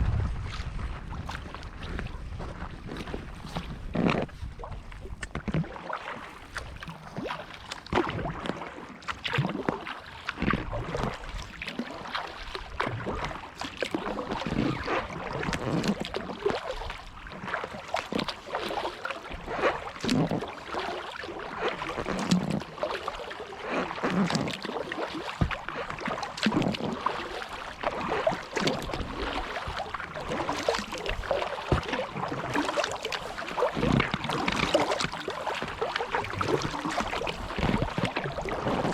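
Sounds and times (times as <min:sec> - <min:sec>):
kayak paddle splashing: 0:00.0 - 0:38.9.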